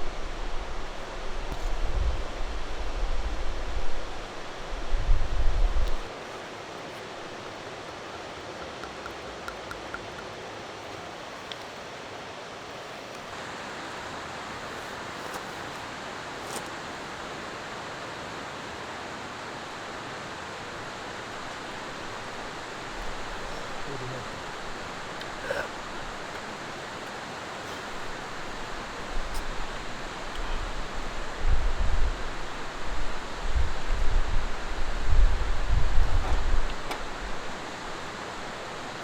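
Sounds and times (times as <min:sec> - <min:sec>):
stream rushing over rocks: 0:00.0 - 0:39.0.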